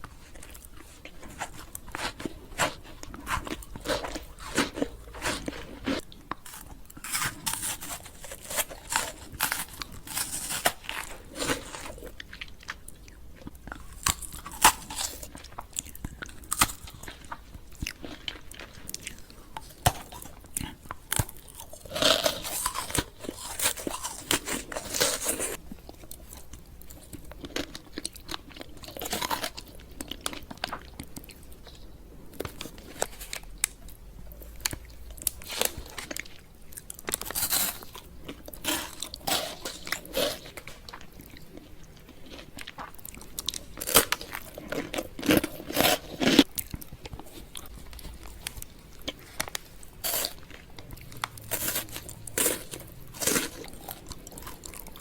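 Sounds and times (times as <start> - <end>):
person chewing crunchy candy: 0.0 - 55.0.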